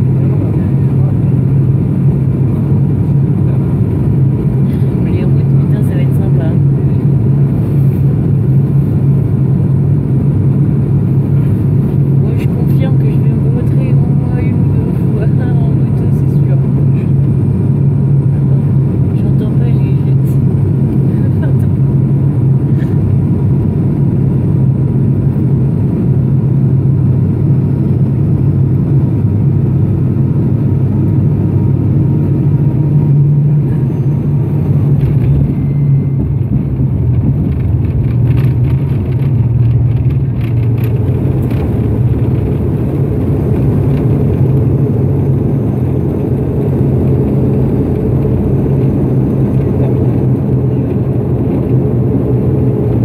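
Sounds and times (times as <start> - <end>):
turboprop engine drone in cabin: 0.0 - 53.0.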